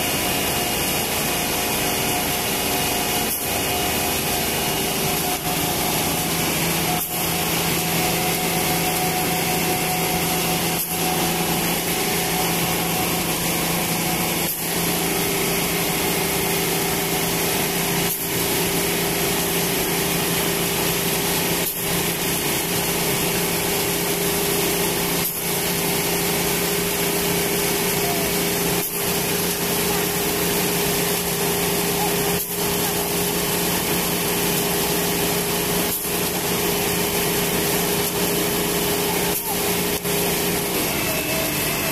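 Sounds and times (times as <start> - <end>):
concrete pouring down chute: 0.0 - 41.9
diesel truck engine running: 0.0 - 41.9.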